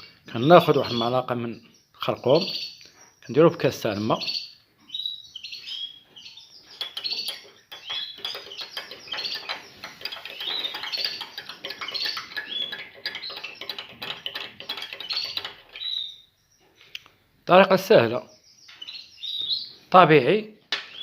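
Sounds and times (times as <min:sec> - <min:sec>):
songbirds chirping and twittering: 0:00.0 - 0:21.0.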